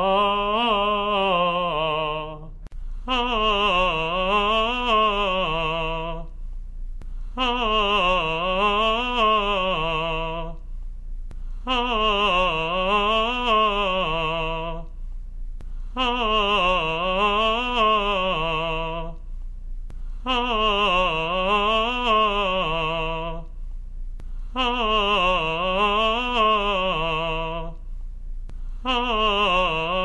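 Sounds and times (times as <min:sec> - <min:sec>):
man singing vocal exercise: 0:00.0 - 0:06.4, 0:07.3 - 0:10.7, 0:11.4 - 0:15.0, 0:15.6 - 0:19.3, 0:20.0 - 0:23.6, 0:24.2 - 0:27.8, 0:28.6 - 0:30.0
steady low hum: 0:00.0 - 0:30.0.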